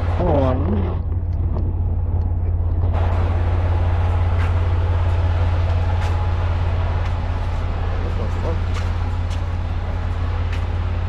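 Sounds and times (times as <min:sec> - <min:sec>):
diesel truck engine humming: 0:00.0 - 0:11.0.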